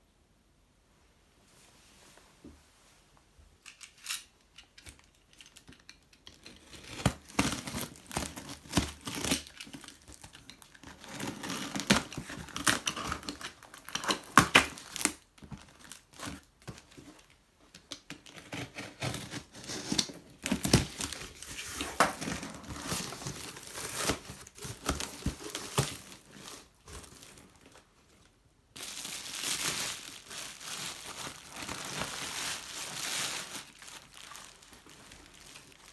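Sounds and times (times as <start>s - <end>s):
packing material crinkling and tearing: 4.8s - 35.9s.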